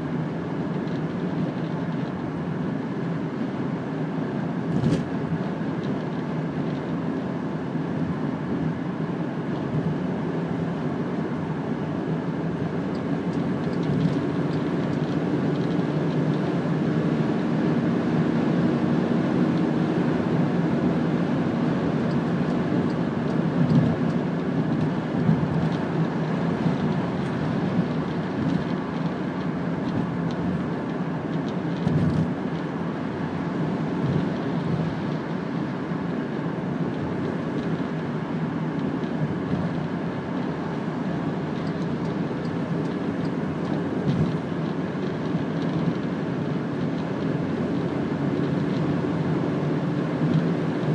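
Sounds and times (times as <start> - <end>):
car driving at speed: 0.0 - 50.9.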